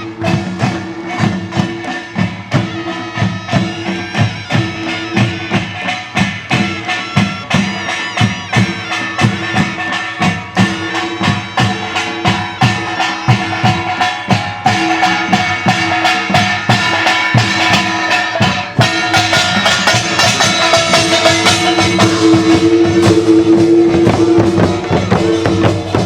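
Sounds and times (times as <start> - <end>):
percussion beating steady rhythm: 0.0 - 26.0
sustained wind instrument melody: 0.0 - 26.0.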